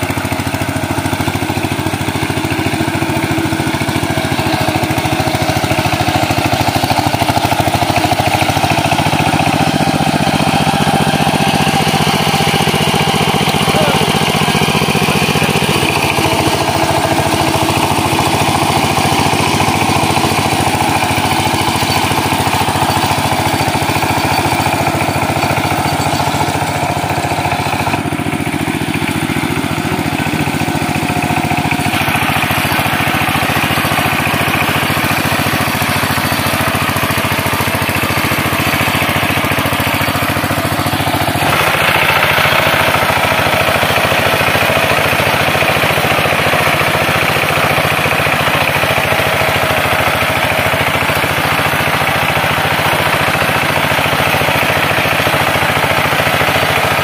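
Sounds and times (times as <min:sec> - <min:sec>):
diesel tiller engine running: 0:00.0 - 0:57.0.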